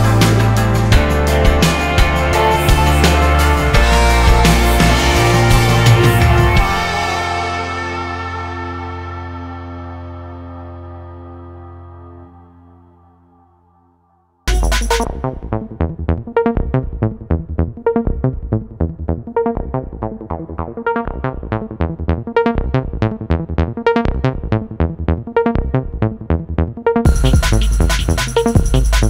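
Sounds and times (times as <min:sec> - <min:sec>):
electronic music with synthesizer: 0:00.0 - 0:29.0.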